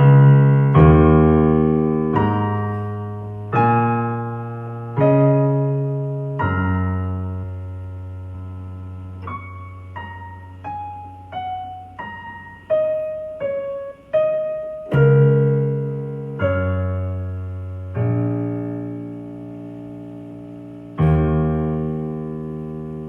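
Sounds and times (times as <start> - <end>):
piano playing slow melody: 0.0 - 23.0.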